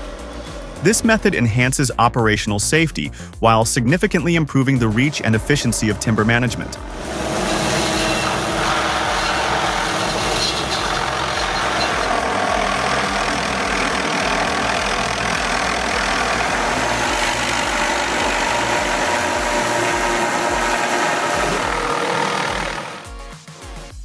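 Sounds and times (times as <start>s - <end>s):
engine running loudly: 0.0s - 1.7s, 4.8s - 23.1s.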